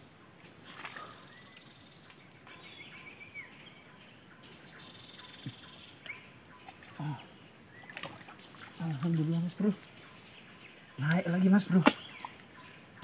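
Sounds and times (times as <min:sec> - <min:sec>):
faint bird chirps: 0:00.6 - 0:13.0.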